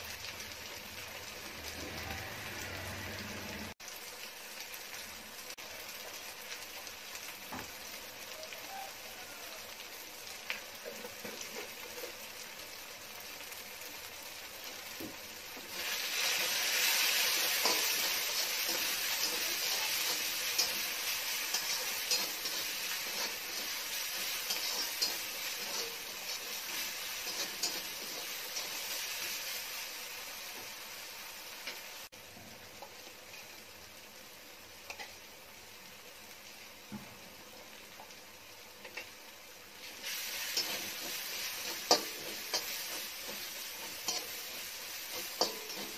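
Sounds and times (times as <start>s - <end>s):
vegetables sizzling in oil: 0.0s - 45.9s.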